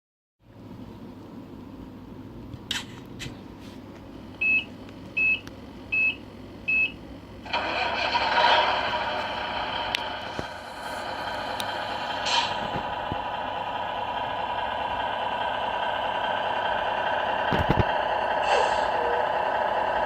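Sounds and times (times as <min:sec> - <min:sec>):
diesel engine starting and running: 0:00.6 - 0:20.0.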